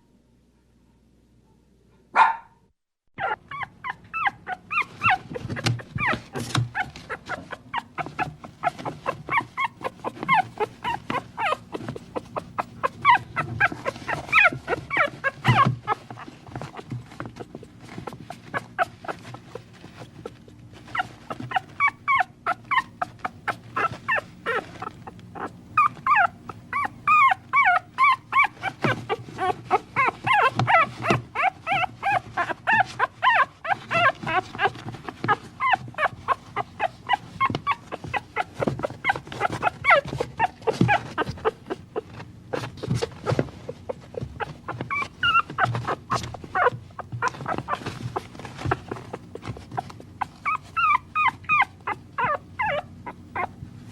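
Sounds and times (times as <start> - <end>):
puppies whimpering and yipping: 3.2 - 53.6.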